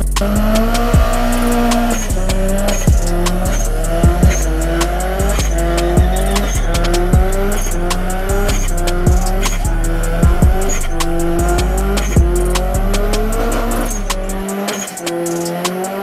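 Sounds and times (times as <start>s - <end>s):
car engine revving: 0.0s - 16.0s
tyre squeal: 0.0s - 16.0s.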